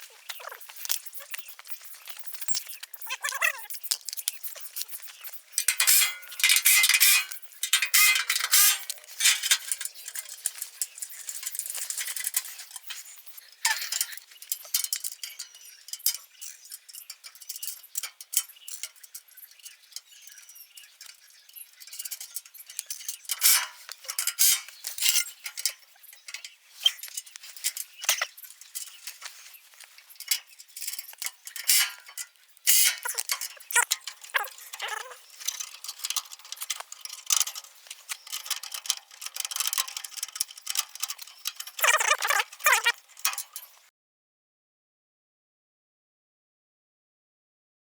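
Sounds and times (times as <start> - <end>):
metal tools clinking and rattling: 0.0 - 43.8.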